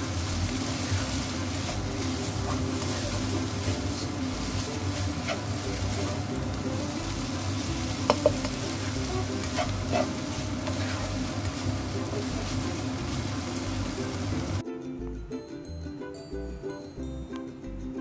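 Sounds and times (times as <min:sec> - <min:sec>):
noodles sizzling in a wok: 0:00.0 - 0:14.6
spatula stirring and tossing: 0:00.0 - 0:14.6.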